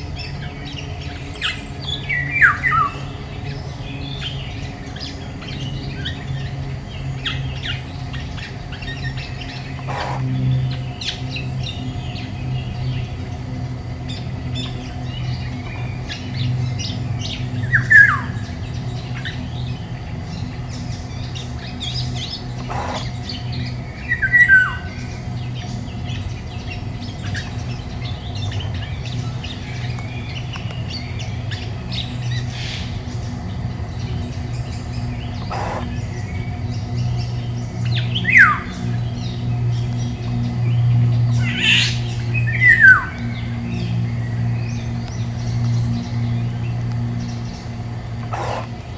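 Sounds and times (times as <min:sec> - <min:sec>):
small birds chirping: 0:00.0 - 0:48.9
steady low hum: 0:00.0 - 0:48.9
loud downward-sliding bird calls: 0:07.2 - 0:48.9.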